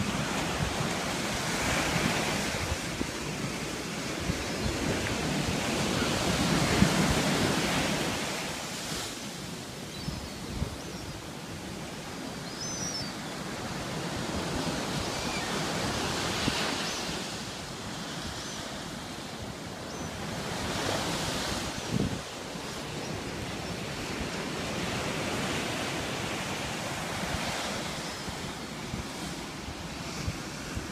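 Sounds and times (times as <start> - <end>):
sea surf breaking on beach: 0.0 - 30.9.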